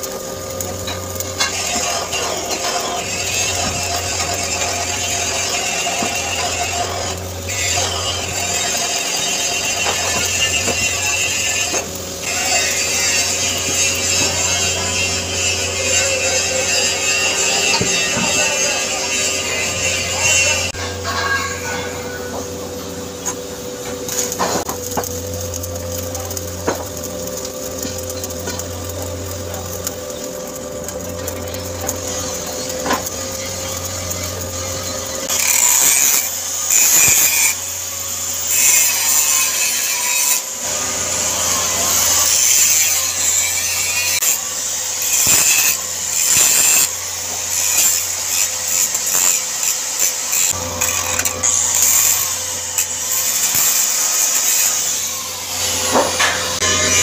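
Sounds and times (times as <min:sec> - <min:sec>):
welding arc crackling: 0:00.0 - 0:57.0.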